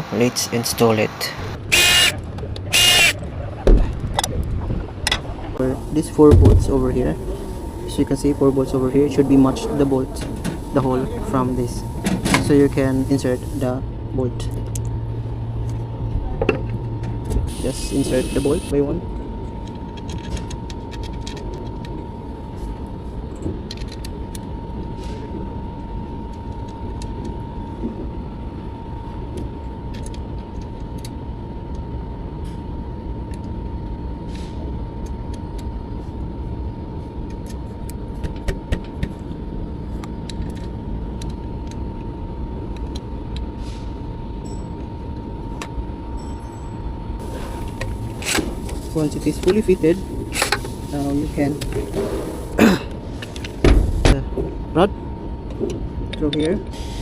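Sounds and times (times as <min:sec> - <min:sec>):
machinery drone with high whine: 0:00.0 - 0:57.0.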